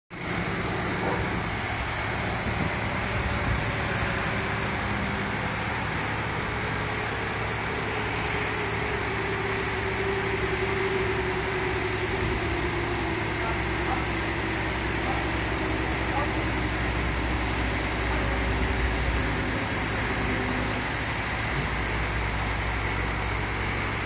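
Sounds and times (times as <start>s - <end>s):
truck engine running: 0.1s - 24.0s
hydraulic whine: 0.2s - 24.0s.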